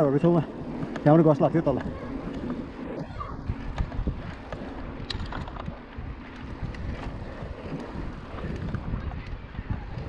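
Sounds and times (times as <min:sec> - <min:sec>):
mountain bike rumble on rough ground: 0:00.0 - 0:10.0
wind buffeting microphone: 0:00.0 - 0:10.0.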